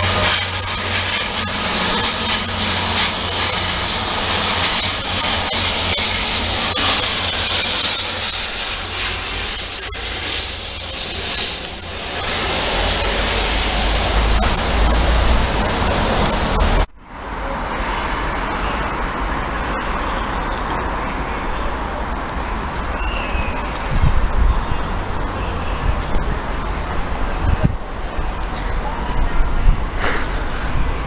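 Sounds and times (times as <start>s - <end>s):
train passing on tracks: 0.0s - 31.0s.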